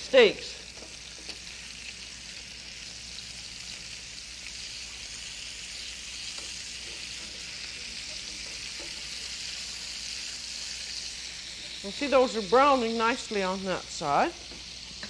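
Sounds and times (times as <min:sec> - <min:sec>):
steaks sizzling in a frying pan: 0:00.0 - 0:15.0.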